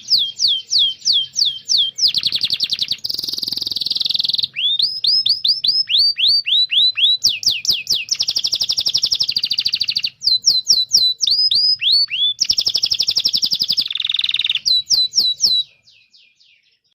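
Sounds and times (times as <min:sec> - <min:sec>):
canary singing trills and chirps: 0:00.0 - 0:16.9.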